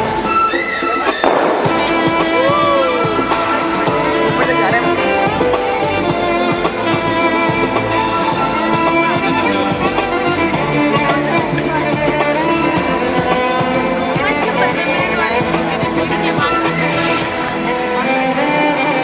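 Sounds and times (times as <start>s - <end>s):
loud instrumental music: 0.0s - 19.0s.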